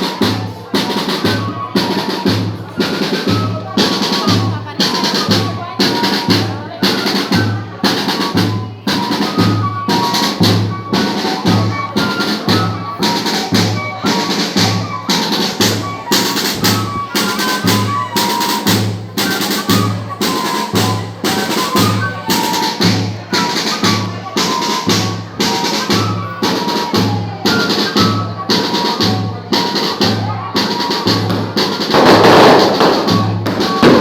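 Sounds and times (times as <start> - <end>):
cane fifes playing melody: 0.0 - 34.0
snare drum strokes: 0.0 - 34.0.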